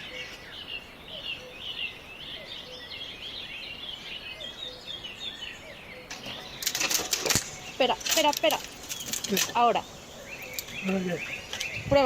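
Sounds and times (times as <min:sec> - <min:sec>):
birds singing and chirping: 0:00.0 - 0:12.0.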